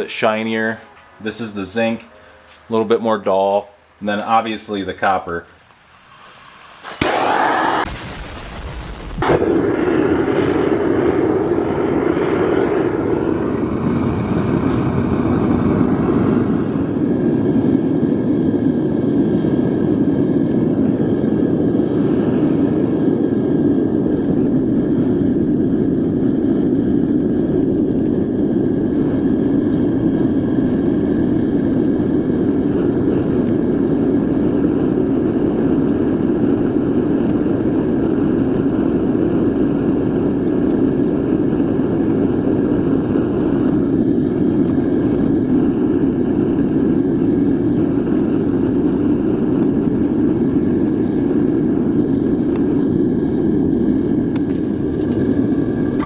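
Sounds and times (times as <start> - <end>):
furnace burner roaring: 4.3 - 8.2, 8.8 - 56.0.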